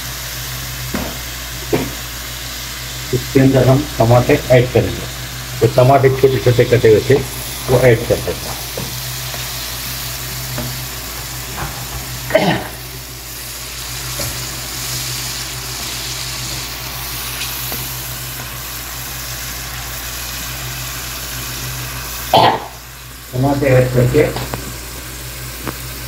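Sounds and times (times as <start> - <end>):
tomatoes sizzling in oil: 0.0 - 26.0.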